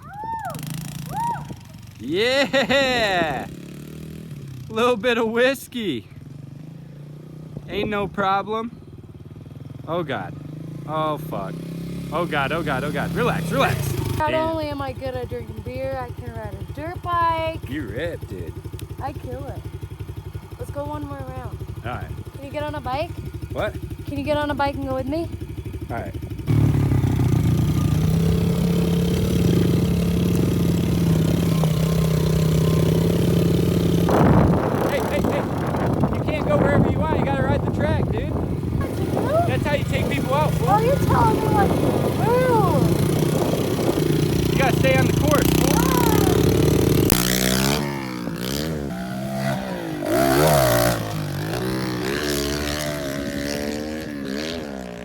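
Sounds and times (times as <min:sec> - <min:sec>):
pit bike engine idling: 0:00.2 - 0:54.5.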